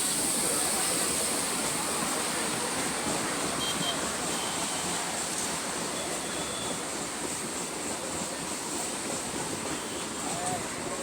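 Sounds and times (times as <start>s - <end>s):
train running noise from on board: 0.0s - 11.0s.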